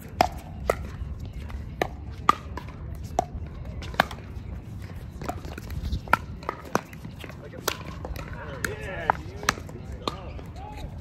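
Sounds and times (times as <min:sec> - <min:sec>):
paddles hitting ball: 0:00.0 - 0:11.0.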